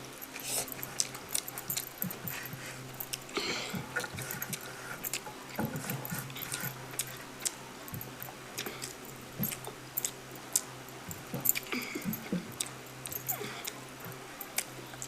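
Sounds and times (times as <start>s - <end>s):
faint low hum: 0.0s - 15.0s
person chewing food: 0.2s - 15.0s.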